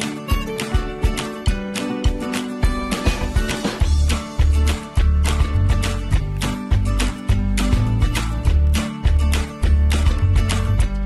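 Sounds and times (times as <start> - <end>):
upbeat music with bass: 0.0 - 11.0.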